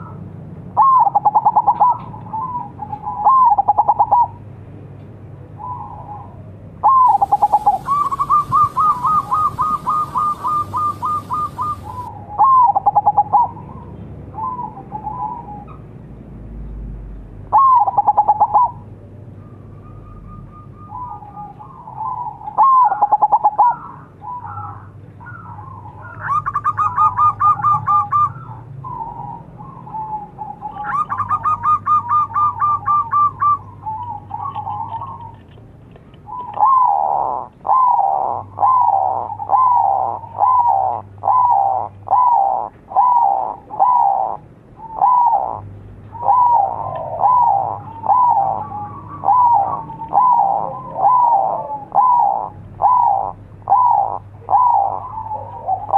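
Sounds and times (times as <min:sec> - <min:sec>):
dove cooing: 0:00.8 - 0:04.4, 0:05.6 - 0:15.8, 0:17.5 - 0:18.9, 0:19.6 - 0:35.5, 0:36.2 - 0:55.9.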